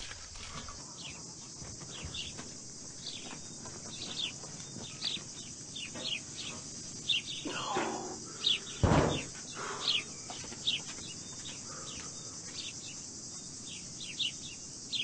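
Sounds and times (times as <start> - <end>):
insects droning: 0.0 - 15.0
bird chirping: 0.4 - 15.0.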